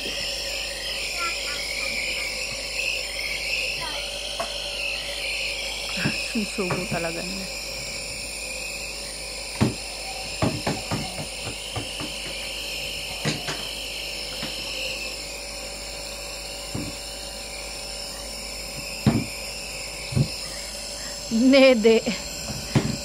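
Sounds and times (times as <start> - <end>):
nebulizer motor hum: 0.0 - 23.0.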